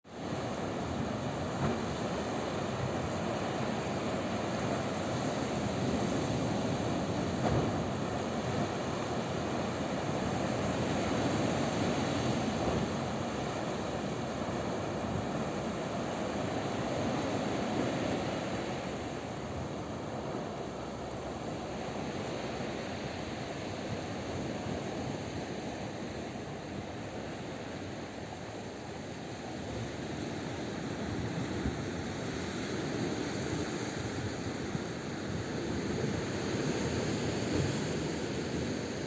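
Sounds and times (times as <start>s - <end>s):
sea waves washing on shore: 0.1s - 39.0s.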